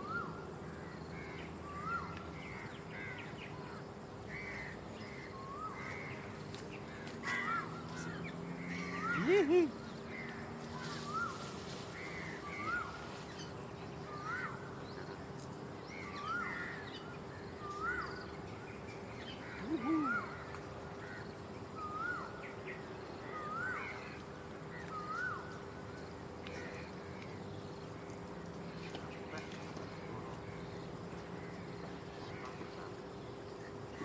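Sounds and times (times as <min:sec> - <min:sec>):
bird calling: 0:00.0 - 0:34.0.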